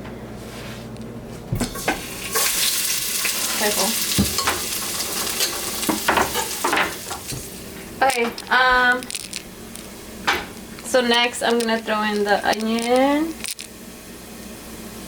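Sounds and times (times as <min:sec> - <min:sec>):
garlic sizzling in oil: 0:01.6 - 0:15.0.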